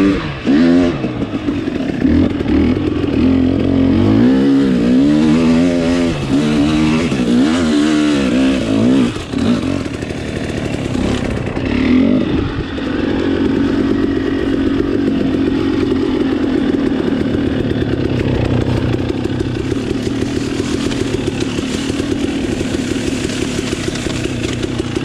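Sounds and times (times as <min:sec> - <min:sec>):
dirt bike engine: 0:00.0 - 0:25.0.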